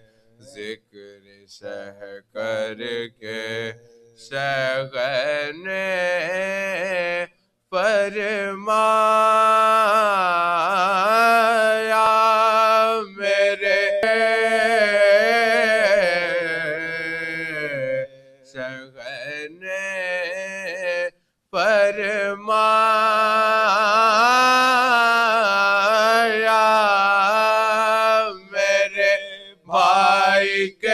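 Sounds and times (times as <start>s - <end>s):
men singing unaccompanied elegy: 1.5s - 30.9s.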